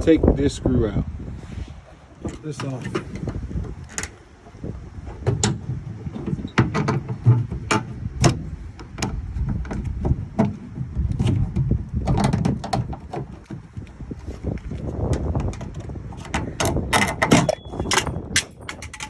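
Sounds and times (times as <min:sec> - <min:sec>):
low handling noise: 0:00.0 - 0:19.0.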